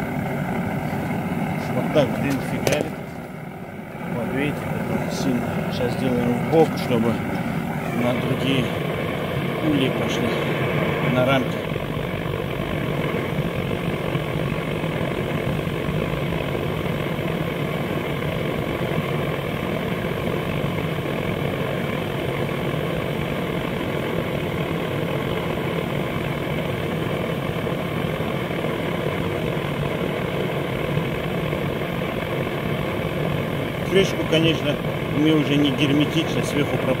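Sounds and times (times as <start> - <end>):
gas burner roaring hiss: 0.0 - 37.0.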